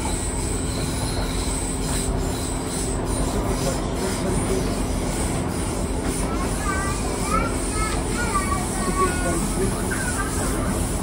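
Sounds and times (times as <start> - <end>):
train interior rumble and hum: 0.0 - 11.0.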